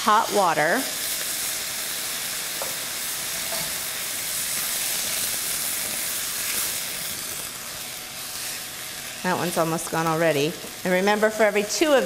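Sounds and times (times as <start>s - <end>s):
rice sizzling in a skillet: 0.0s - 12.0s.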